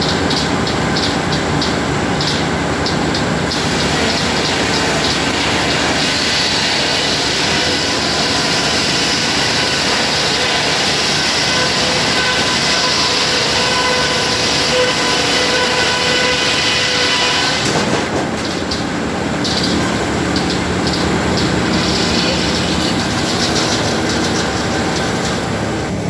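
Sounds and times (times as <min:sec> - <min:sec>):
rapid rhythmic ticking: 0:00.0 - 0:26.0
sawmill machinery running: 0:00.0 - 0:26.0.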